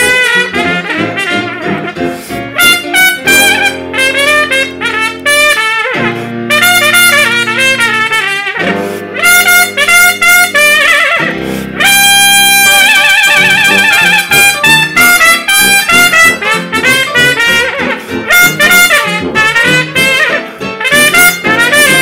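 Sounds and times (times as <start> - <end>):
piano chords: 0.0 - 22.0
sustained tuba bass notes: 0.0 - 22.0
trumpet melody: 0.0 - 22.0.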